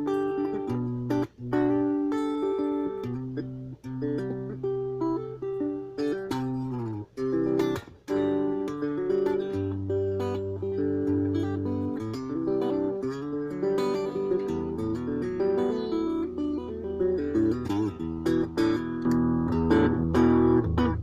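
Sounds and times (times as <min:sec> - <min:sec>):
electric guitar chords and notes: 0:00.0 - 0:21.0.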